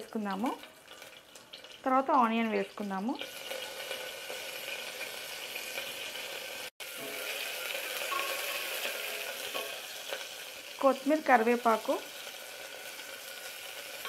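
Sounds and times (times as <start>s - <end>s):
chillies and onion sizzling in oil: 0.0s - 14.0s.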